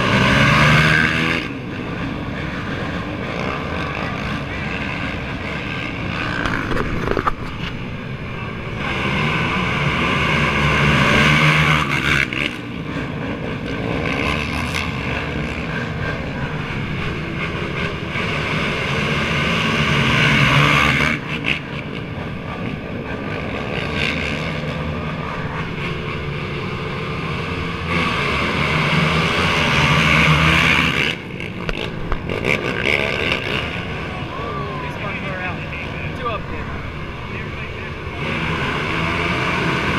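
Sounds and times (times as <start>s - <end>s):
quad engines accelerating at full throttle: 0.0s - 39.9s.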